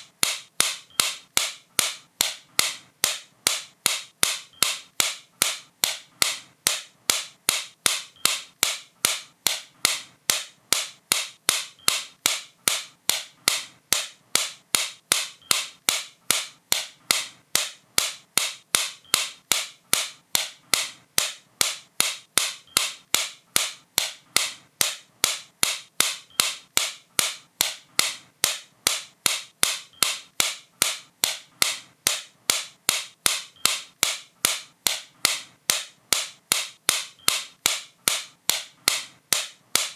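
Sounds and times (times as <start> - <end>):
sharp light clicks: 0.2 - 39.9.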